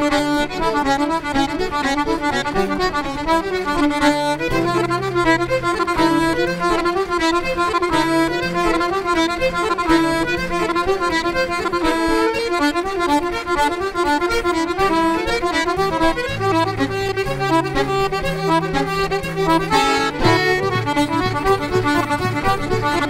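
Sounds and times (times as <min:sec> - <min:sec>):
bass accompaniment: 0:00.0 - 0:23.0
fast accordion tune: 0:00.0 - 0:23.0.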